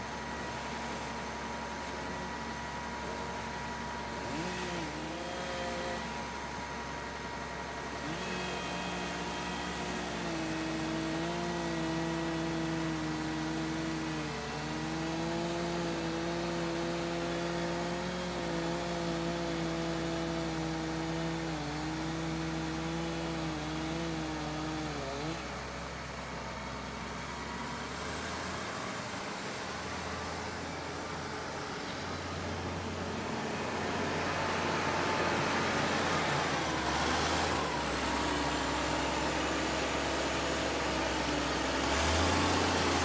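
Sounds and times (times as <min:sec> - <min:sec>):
wheel loader diesel engine: 0:00.0 - 0:43.0.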